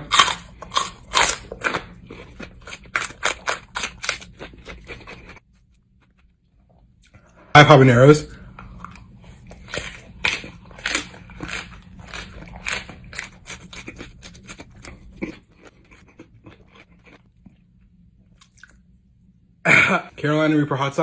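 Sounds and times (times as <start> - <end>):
person chewing crunchy peppers: 0.0 - 7.3, 8.4 - 18.8.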